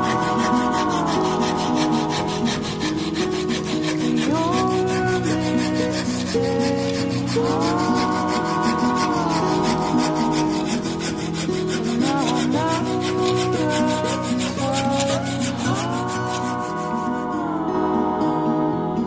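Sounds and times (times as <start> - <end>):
rhythmic rubbing or scraping: 0.0 - 17.5
background music with held chords: 0.0 - 19.0.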